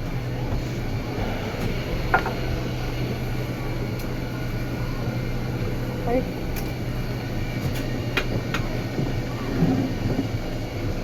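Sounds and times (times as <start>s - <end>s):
ship machinery humming: 0.0s - 11.0s.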